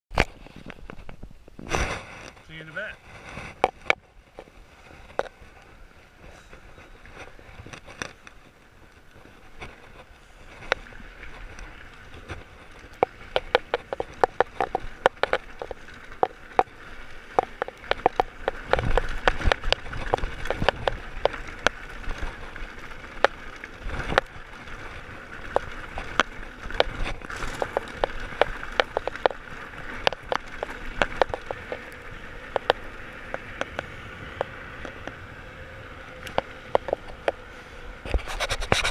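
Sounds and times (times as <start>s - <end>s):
bike rattling over stones: 0.1s - 38.9s
tyre noise on gravel: 0.2s - 38.9s.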